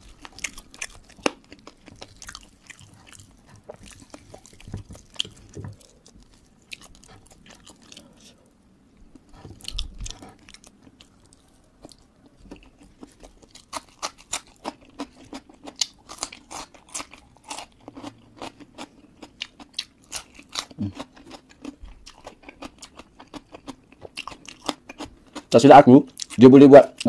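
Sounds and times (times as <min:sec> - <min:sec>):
person chewing crunchy food: 0:00.0 - 0:08.4, 0:09.1 - 0:27.0.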